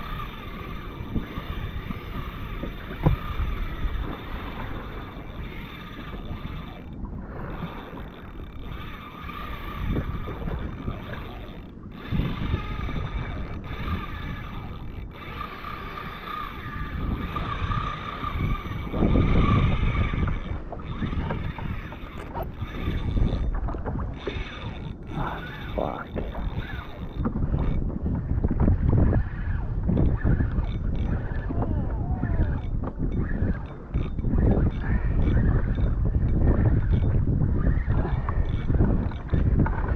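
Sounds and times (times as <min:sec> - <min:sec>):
sea water around kayak: 0:00.0 - 0:39.9
wind buffeting microphone: 0:00.0 - 0:39.9.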